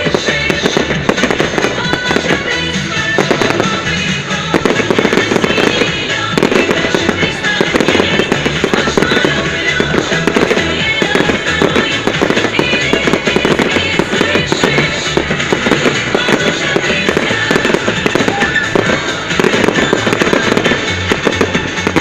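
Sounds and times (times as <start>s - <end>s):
fireworks bangs and crackling: 0.0s - 22.0s
loud music playing: 0.0s - 22.0s.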